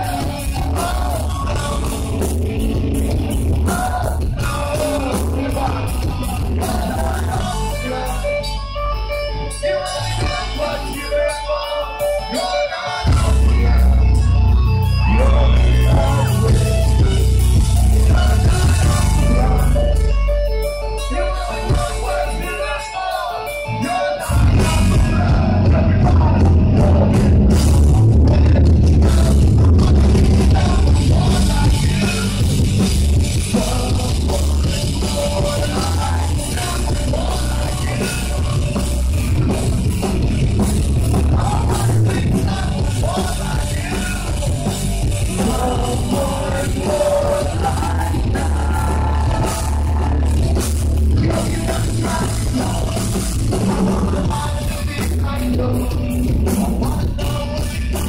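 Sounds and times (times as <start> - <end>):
person singing and yelling: 0.0 - 20.2, 20.9 - 32.6, 33.4 - 40.2, 41.1 - 50.3
live rock band playing: 0.0 - 58.0.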